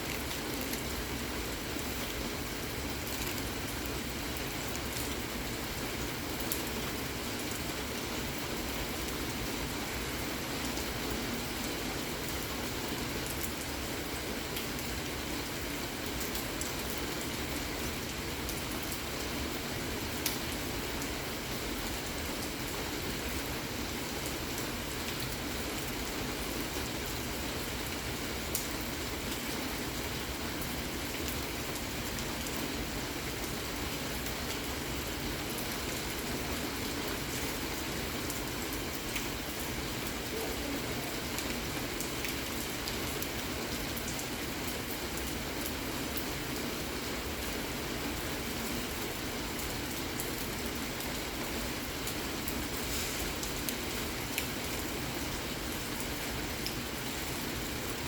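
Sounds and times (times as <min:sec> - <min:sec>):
raindrops ticking on surfaces: 0:00.0 - 0:58.0
steady rain hiss: 0:00.0 - 0:58.0.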